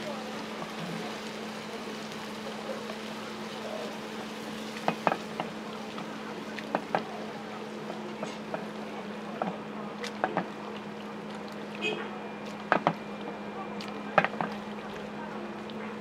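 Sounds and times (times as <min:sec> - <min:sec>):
sauce simmering in a pan: 0:00.0 - 0:13.0.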